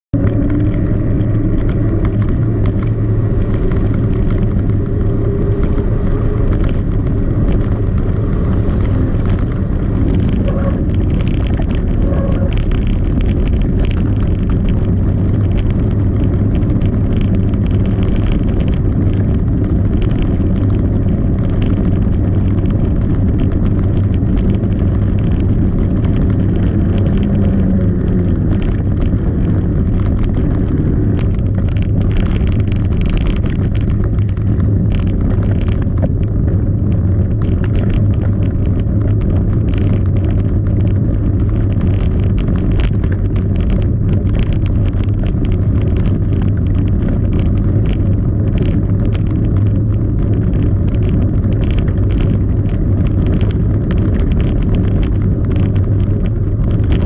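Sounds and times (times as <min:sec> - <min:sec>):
bike tyres rumbling on pavers: 0:00.1 - 0:57.0
fine rattling of wheels: 0:00.1 - 0:57.0.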